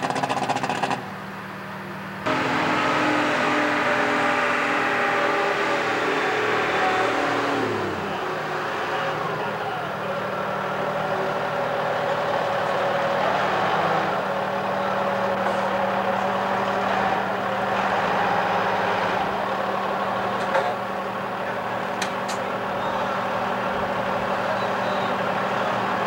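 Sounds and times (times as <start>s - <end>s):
forklift engine idling: 0.0s - 26.0s.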